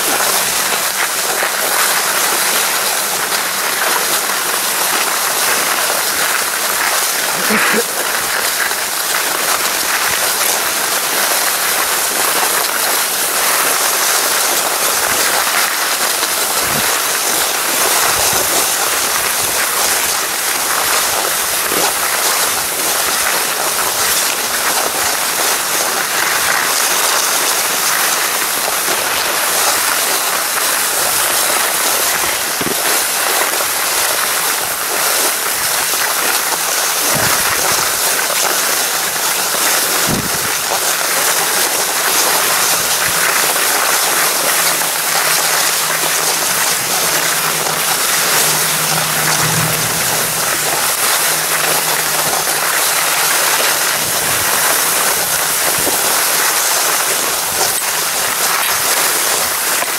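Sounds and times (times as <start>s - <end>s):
skis hissing on snow: 0.0s - 59.9s.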